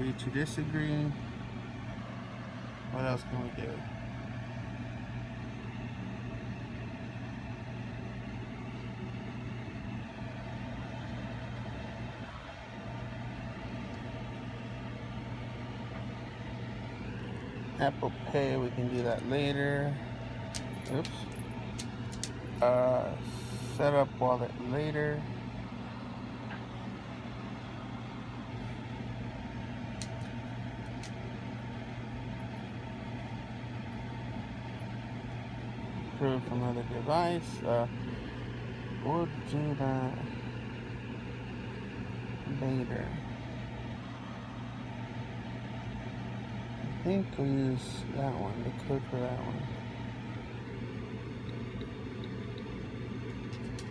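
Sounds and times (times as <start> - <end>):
low machine hum: 0.0 - 53.9.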